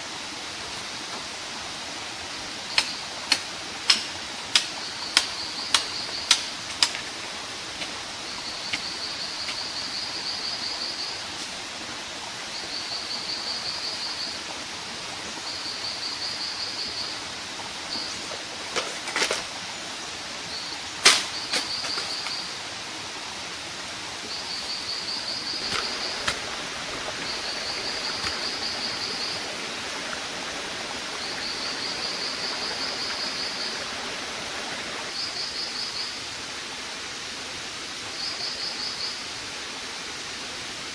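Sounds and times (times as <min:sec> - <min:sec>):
steady forest hiss: 0:00.0 - 0:40.9.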